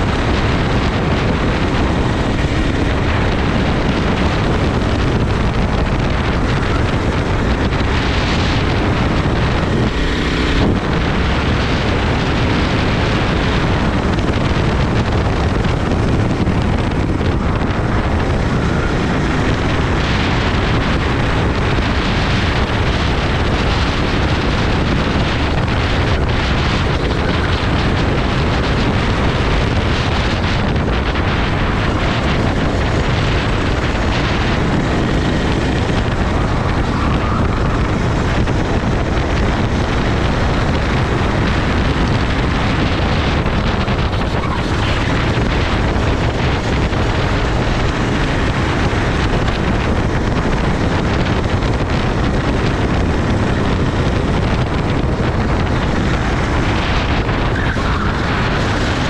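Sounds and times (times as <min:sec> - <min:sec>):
go-kart engine: 0:00.0 - 0:59.0
wind noise on microphone: 0:00.0 - 0:59.0.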